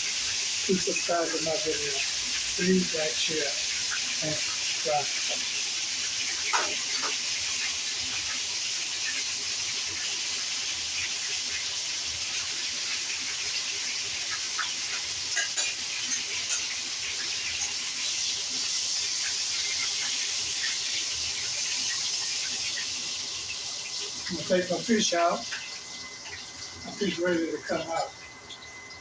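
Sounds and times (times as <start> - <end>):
fish frying in hot grease: 0.0 - 29.0.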